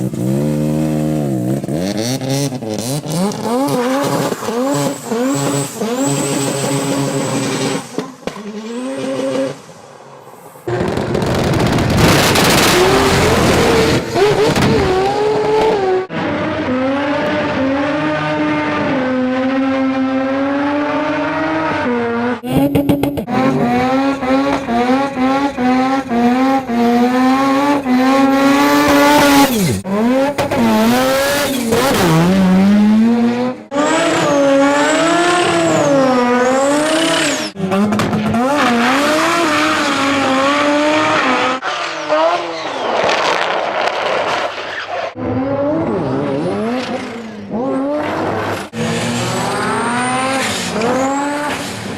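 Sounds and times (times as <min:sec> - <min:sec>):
rotary engines revving: 0:00.0 - 0:51.9.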